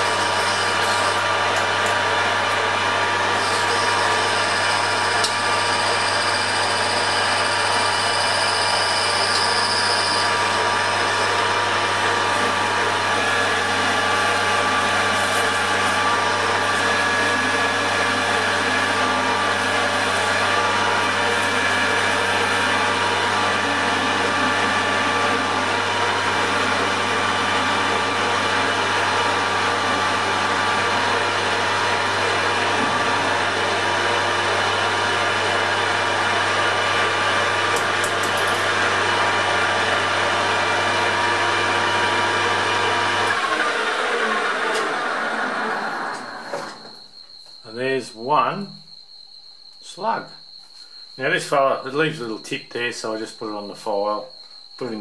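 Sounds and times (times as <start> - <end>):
lathe winding down: 0.0 - 47.0
metal lathe motor humming: 0.0 - 47.0
gear whine: 0.0 - 55.0.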